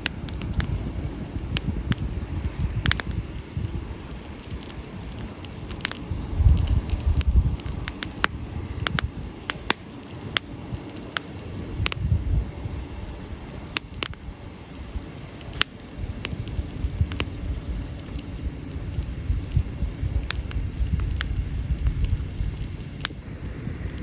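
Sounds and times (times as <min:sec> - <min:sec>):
campfire crackling: 0:00.0 - 0:24.0
fire popping: 0:00.0 - 0:24.0
low uneven rumble: 0:00.0 - 0:24.0.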